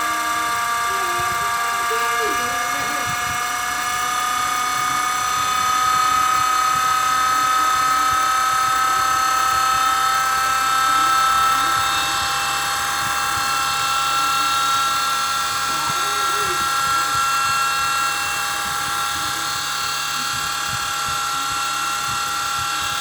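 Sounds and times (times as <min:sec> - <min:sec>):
small rc helicopter whine: 0:00.0 - 0:23.0.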